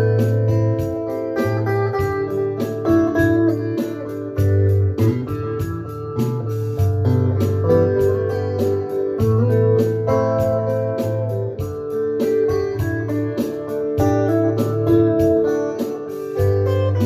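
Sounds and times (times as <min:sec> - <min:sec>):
low bass notes: 0:00.0 - 0:15.4
steady ticking beat: 0:00.0 - 0:17.0.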